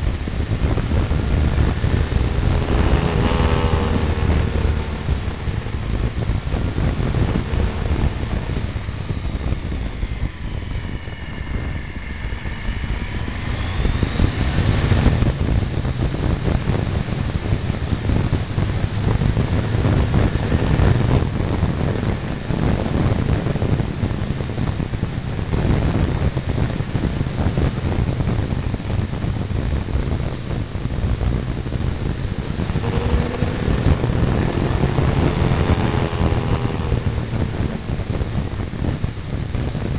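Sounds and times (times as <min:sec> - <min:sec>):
motorcycle engine pulling: 0:00.0 - 0:10.2, 0:12.0 - 0:39.9
wind rush: 0:00.0 - 0:39.9.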